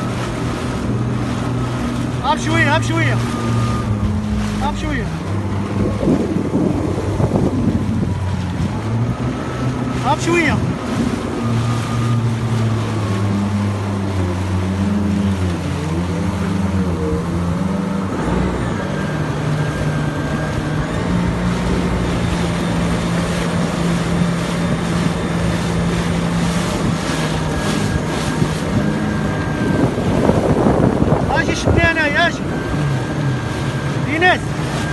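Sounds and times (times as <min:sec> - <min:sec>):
jet ski engine droning: 0:00.0 - 0:34.9
wind and water rushing: 0:00.0 - 0:34.9.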